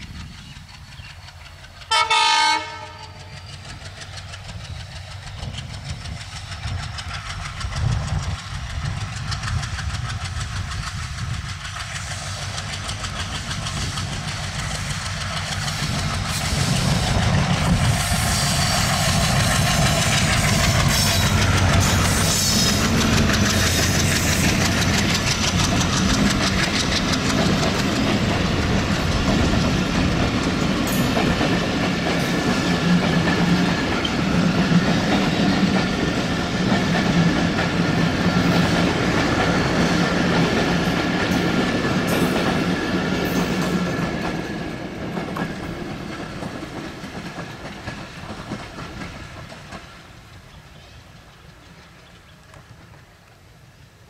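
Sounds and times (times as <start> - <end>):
train wheels clattering on rails: 0.0 - 53.5.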